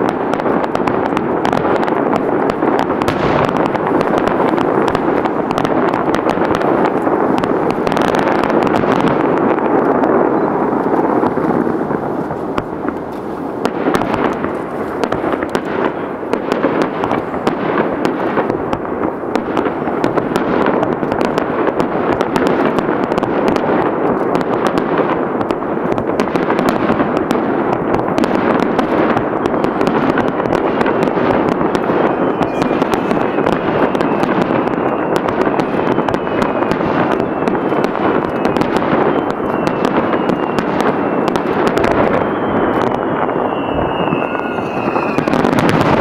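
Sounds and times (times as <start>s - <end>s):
fireworks crackling: 0.0s - 46.0s.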